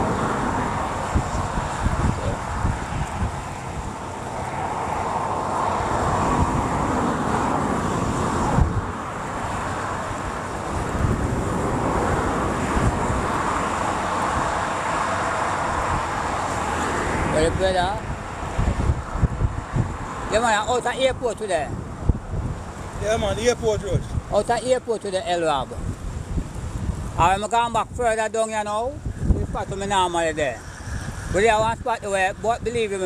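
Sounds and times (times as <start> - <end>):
outdoor rushing noise: 0.0 - 24.5, 28.8 - 33.0
wind buffeting the microphone: 0.0 - 33.0.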